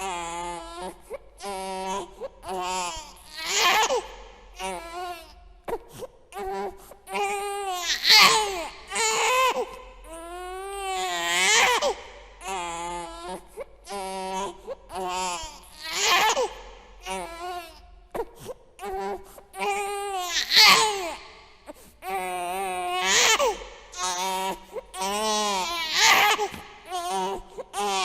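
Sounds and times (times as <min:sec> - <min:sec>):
infant crying: 0:00.0 - 0:05.5, 0:06.4 - 0:17.9, 0:18.8 - 0:21.3, 0:22.0 - 0:28.0.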